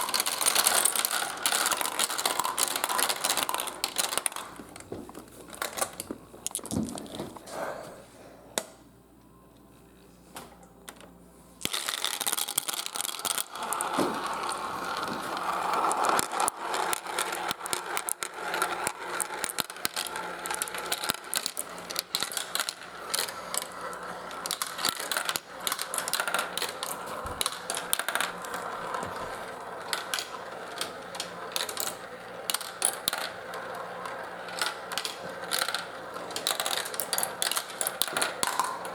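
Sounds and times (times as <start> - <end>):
marbles rolling and clattering: 0.0 - 7.4, 11.6 - 38.9.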